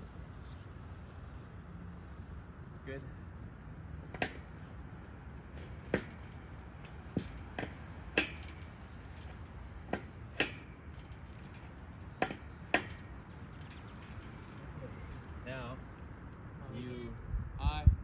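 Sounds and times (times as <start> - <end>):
low wind rumble: 0.0 - 18.0.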